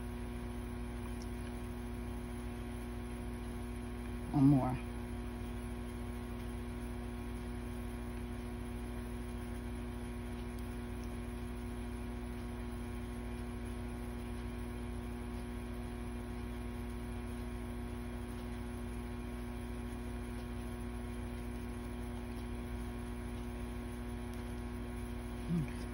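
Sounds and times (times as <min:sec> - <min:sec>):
steady electrical hum: 0:00.0 - 0:25.9.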